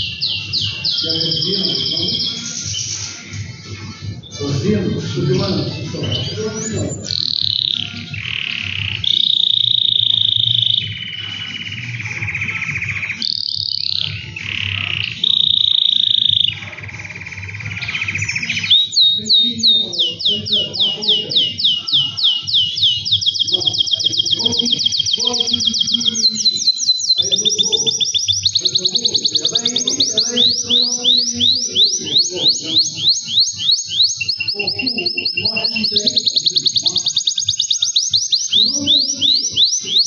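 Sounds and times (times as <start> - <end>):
canary singing: 0.0 - 40.0.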